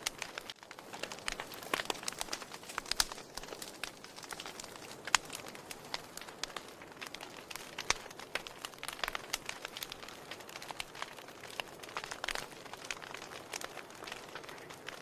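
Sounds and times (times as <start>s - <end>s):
fire hissing softly: 0.0s - 15.0s
wood fire crackling and popping: 0.0s - 15.0s.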